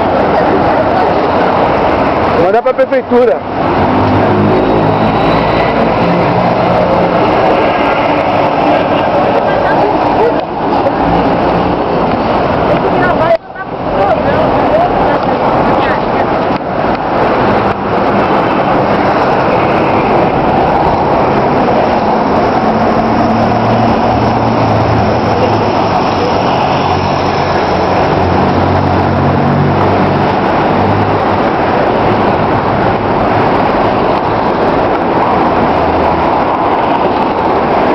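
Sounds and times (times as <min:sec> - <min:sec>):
street traffic noise: 0:00.0 - 0:37.9.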